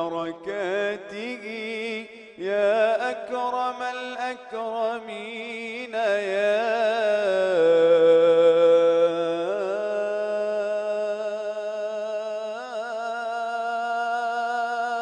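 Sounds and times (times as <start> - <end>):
man singing melismatic chant: 0.0 - 15.0.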